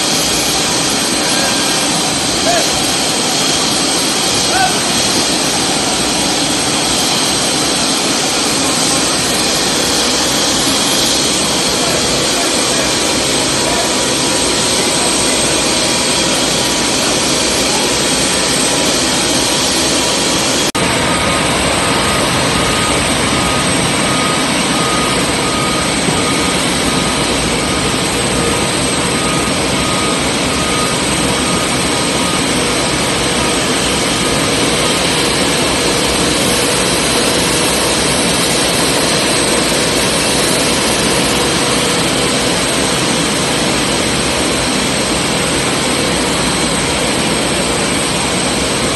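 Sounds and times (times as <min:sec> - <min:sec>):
hydraulic machinery whining: 0:00.0 - 0:48.9.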